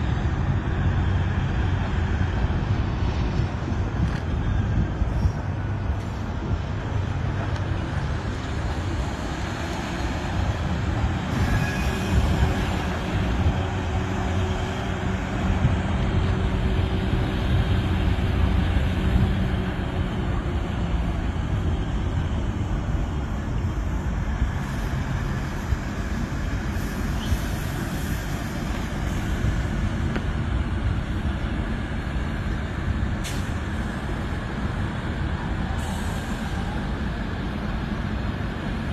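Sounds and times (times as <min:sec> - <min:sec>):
diesel locomotive engine rumble: 0:00.0 - 0:38.9
rail cars rolling over rails: 0:00.0 - 0:38.9.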